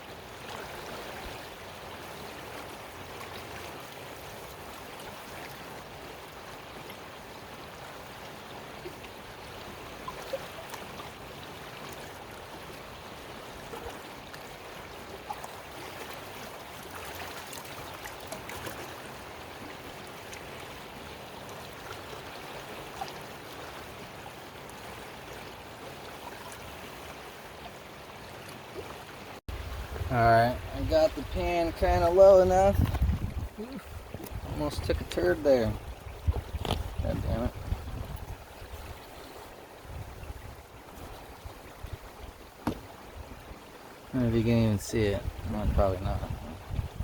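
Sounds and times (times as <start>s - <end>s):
creek water flowing: 0.0s - 47.0s.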